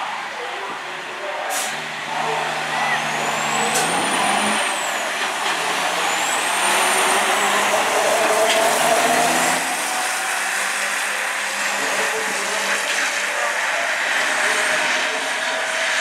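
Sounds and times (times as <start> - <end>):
diesel trucks accelerating: 0.0 - 16.0.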